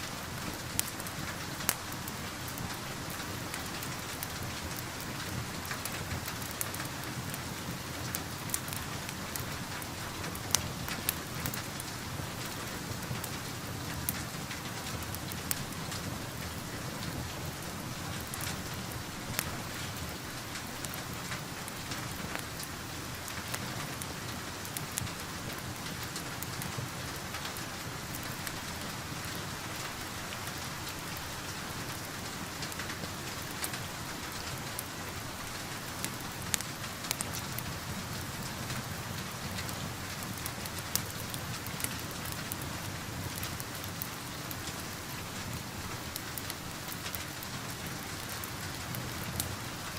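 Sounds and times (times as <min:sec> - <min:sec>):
steady rain falling: 0:00.0 - 0:49.9
wood fire popping: 0:00.3 - 0:49.8.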